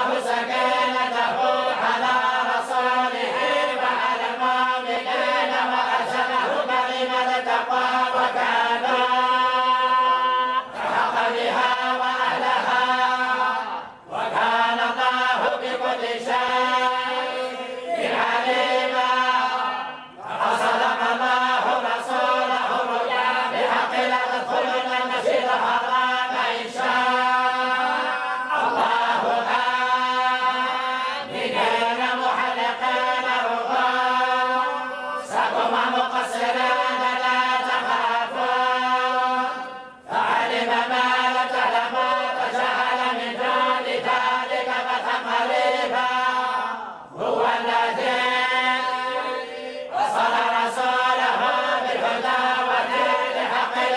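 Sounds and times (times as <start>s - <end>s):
group of voices chanting in unison: 0.0s - 53.9s.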